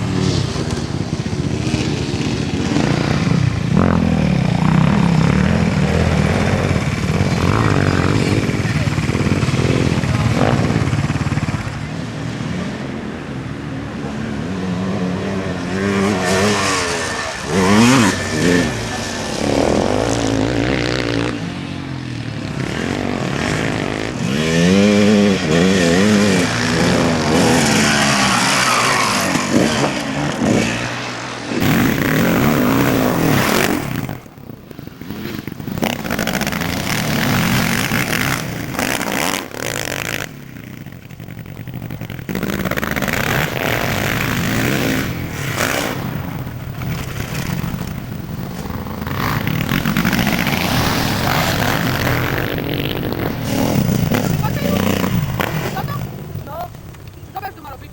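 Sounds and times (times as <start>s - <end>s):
motocross bike engines revving: 0.0s - 57.9s.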